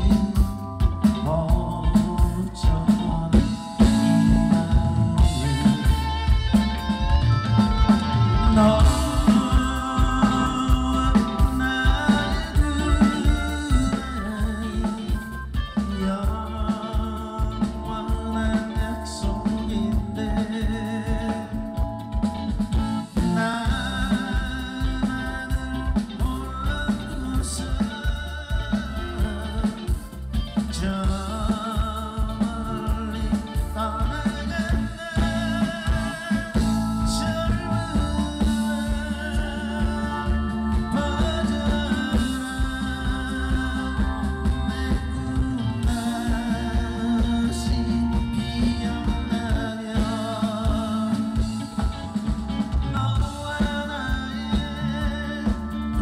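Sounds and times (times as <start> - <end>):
live band playing pop song: 0.0 - 56.0.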